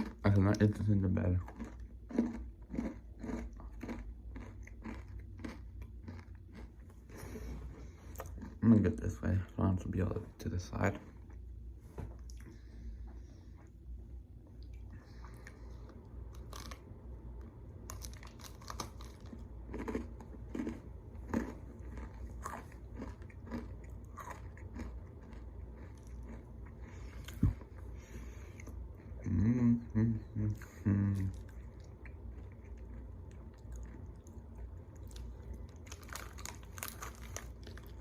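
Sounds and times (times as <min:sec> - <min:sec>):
crunching and chewing granola bar: 0:00.0 - 0:09.5, 0:14.6 - 0:29.2, 0:30.5 - 0:38.0.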